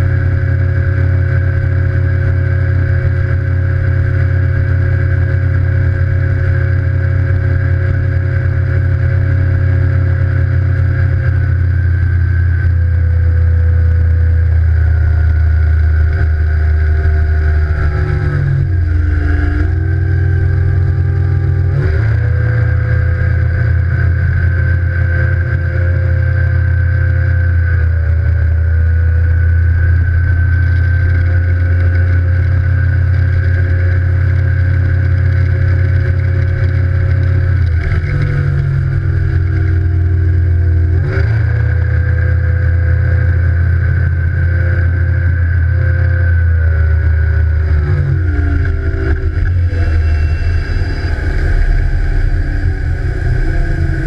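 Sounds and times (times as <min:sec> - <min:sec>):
outboard motor running at speed: 0:00.0 - 0:54.0.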